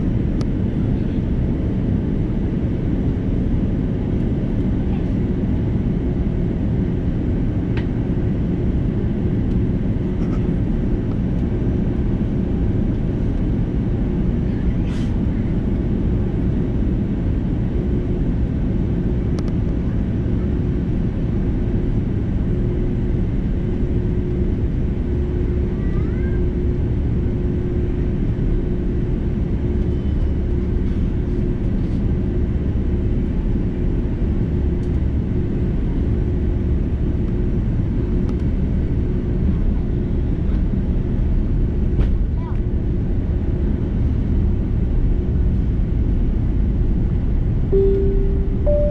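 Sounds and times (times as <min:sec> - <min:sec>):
airliner cabin engine rumble: 0:00.0 - 0:48.9.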